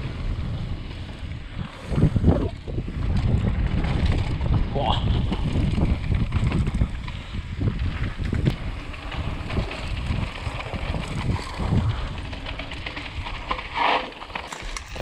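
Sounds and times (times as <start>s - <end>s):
wind on microphone: 0.0s - 13.5s
bike rattling over bumps: 0.0s - 15.0s
bike tyres crunching on dirt: 0.0s - 15.0s.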